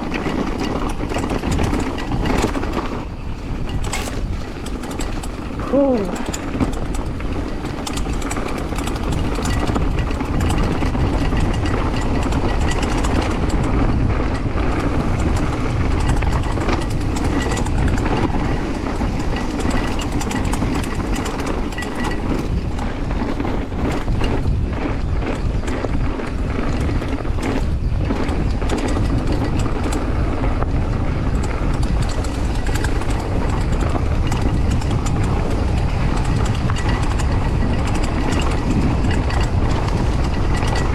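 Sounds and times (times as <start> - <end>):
bike rattles and knocks: 0.0 - 40.9
tyres rolling over dirt: 0.0 - 40.9
wind buffeting camera: 0.0 - 40.9.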